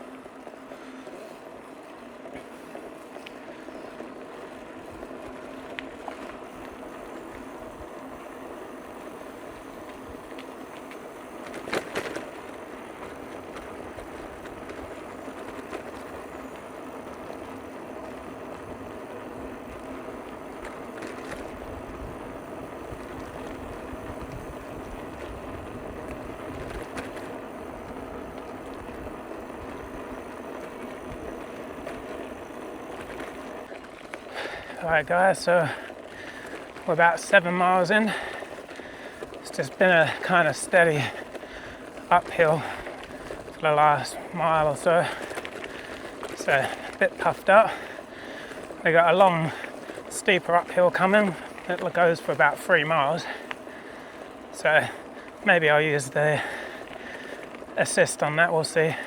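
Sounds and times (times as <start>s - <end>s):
bicycle tyres rolling on trail: 0.0s - 59.0s.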